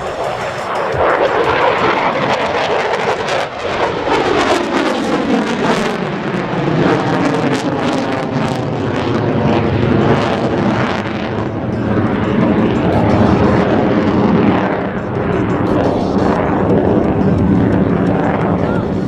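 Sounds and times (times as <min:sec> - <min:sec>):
crackling jet engine noise: 0:00.0 - 0:19.0.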